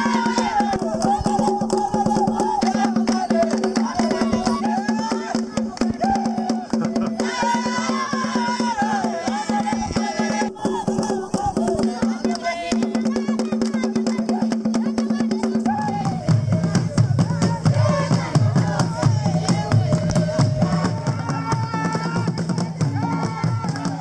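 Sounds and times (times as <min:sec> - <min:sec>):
fast drumbeats: 0:00.0 - 0:24.0
person singing: 0:00.0 - 0:24.0.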